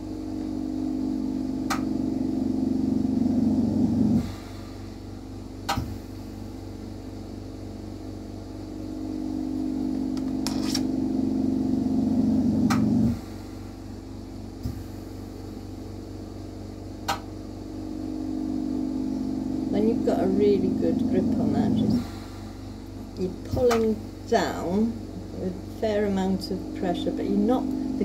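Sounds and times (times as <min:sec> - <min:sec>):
motor hum: 0:00.0 - 0:28.0.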